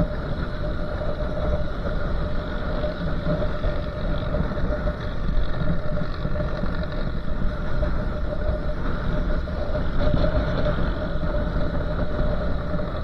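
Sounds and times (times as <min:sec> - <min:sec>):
motorcycle engine noise: 0:00.0 - 0:13.0
steady hum: 0:00.0 - 0:13.0
wind rushing over microphone: 0:00.0 - 0:13.0.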